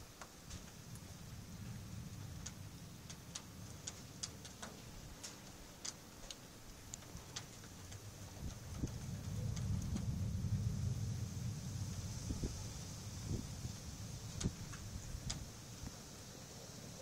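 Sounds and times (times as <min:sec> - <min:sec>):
raindrops ticking on hard surface: 0:00.0 - 0:16.0
steady low rumble: 0:00.0 - 0:17.0.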